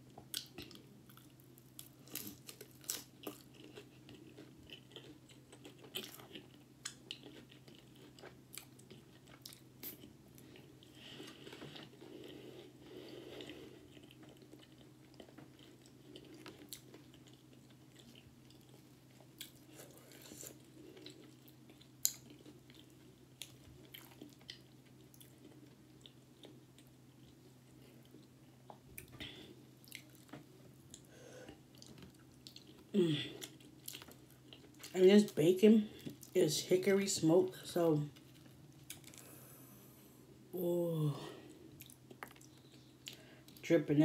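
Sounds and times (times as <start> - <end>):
steady low hum: 0.0 - 44.0
person chewing food: 0.1 - 34.9, 38.2 - 40.2, 41.4 - 43.6.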